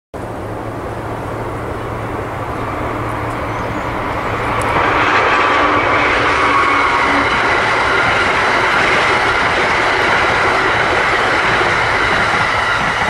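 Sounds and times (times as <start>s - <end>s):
train rail noise: 0.2s - 13.0s.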